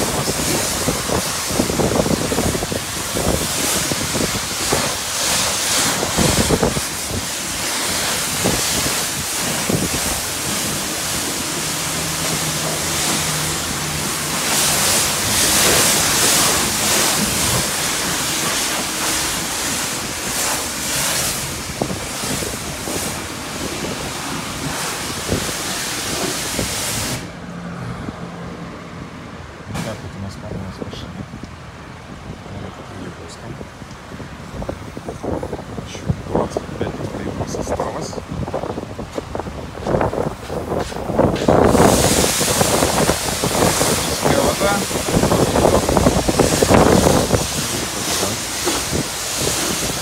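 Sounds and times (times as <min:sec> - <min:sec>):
high-pressure water spray: 0:00.0 - 0:28.9, 0:29.7 - 0:30.1, 0:34.5 - 0:50.0.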